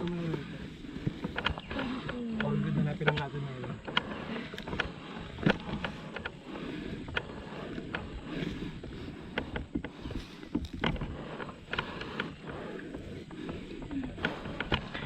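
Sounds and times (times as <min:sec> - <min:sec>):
dirt bike on rocky trail: 0:00.0 - 0:15.0
stones clicking and knocking: 0:00.0 - 0:15.0.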